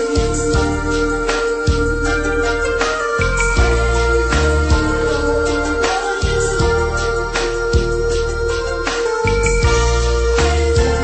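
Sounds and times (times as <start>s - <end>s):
bass: 0.0s - 11.0s
held keyboard chords: 0.0s - 11.0s
soul ballad: 0.0s - 11.0s
steady drum beat: 0.0s - 11.0s.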